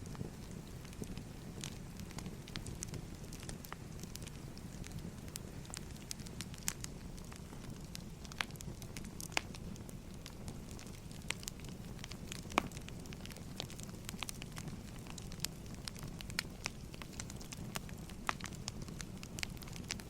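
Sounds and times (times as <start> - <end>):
fire crackles and pops: 0.0 - 20.0.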